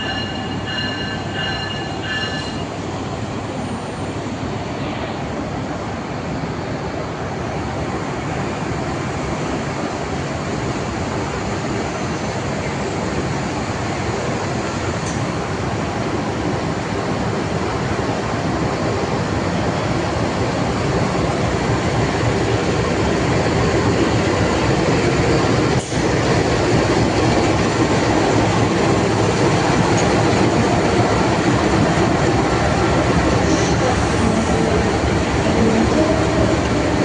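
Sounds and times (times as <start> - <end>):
train wheels rolling on rails: 0.0 - 5.9, 7.8 - 37.0.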